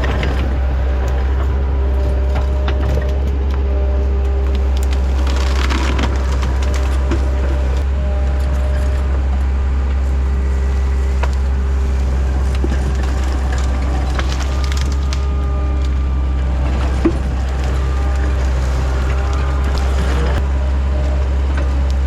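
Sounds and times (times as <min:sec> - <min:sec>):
diesel engine running: 0:00.0 - 0:22.0
wood cracking and splintering: 0:00.0 - 0:22.0.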